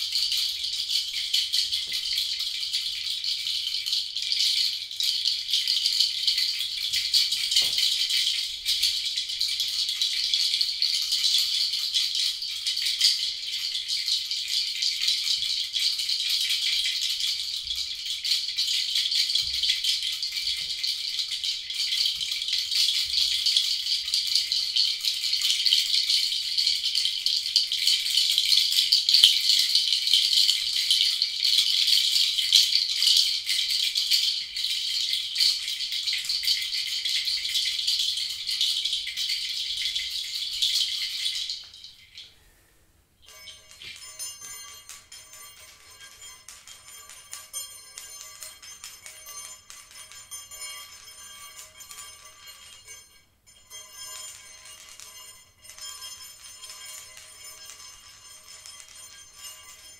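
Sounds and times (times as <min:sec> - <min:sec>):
shaker rattling: 0:00.0 - 0:42.3, 0:43.2 - 0:59.9.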